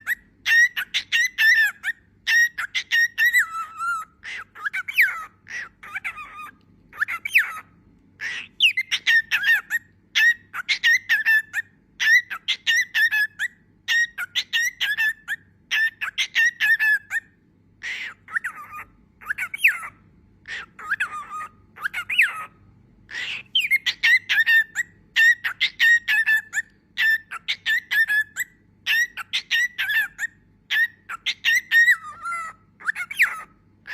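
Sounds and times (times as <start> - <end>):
cockatiel chirping and whistling: 0.0 - 33.9.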